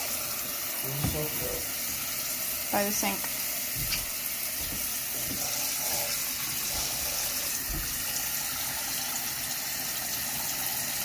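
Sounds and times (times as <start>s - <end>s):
tap water running into tub: 0.0s - 11.0s.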